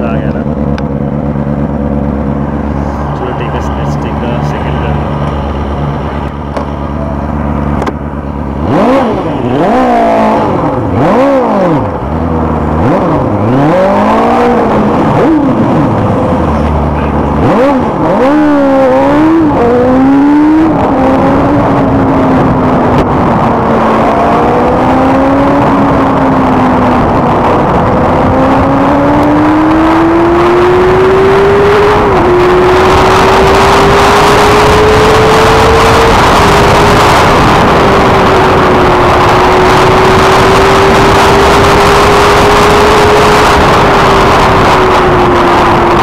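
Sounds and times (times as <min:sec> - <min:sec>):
motorcycle engine accelerating: 0:00.0 - 0:46.0
wind rush on microphone: 0:07.4 - 0:46.0.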